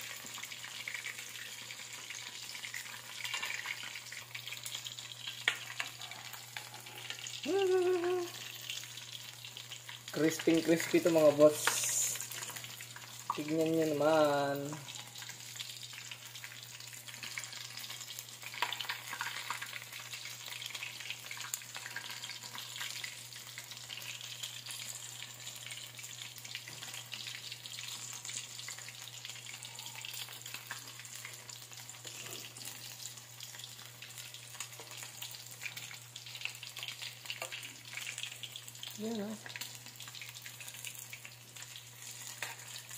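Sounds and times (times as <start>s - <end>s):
frying in hot oil sizzling: 0.0s - 42.9s.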